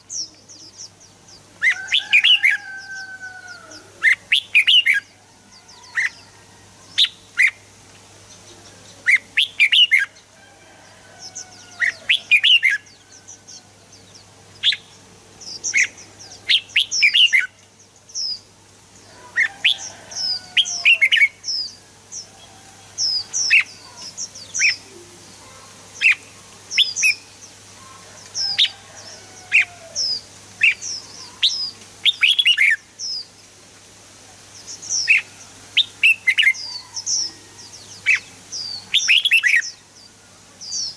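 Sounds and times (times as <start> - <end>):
bird chirping song: 0.0 - 33.4, 34.5 - 40.9.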